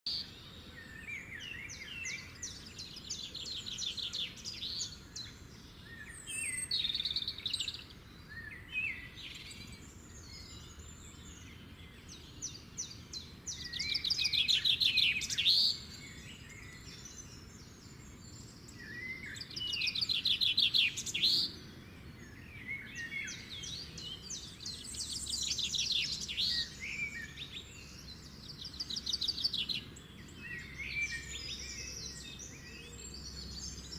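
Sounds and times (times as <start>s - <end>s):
birds chirping and twittering: 0.1s - 33.9s.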